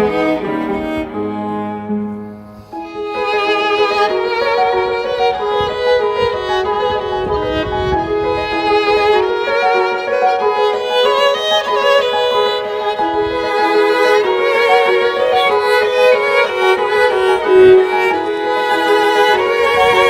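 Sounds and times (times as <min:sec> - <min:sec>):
violin melody with vibrato: 0:00.0 - 0:20.0.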